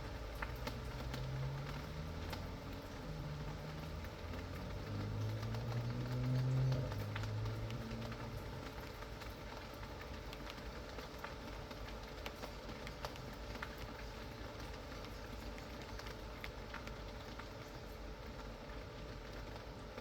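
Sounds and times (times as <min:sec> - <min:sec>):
drops and drips: 0:00.0 - 0:20.0
steady rain: 0:00.0 - 0:20.0.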